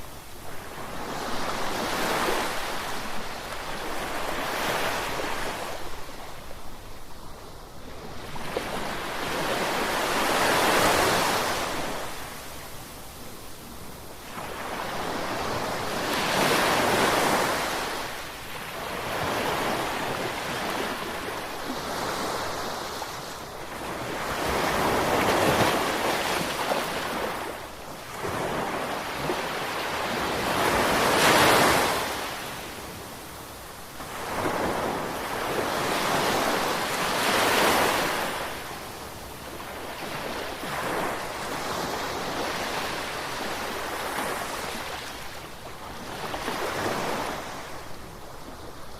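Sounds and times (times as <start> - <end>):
gentle ocean waves: 0.0 - 48.9.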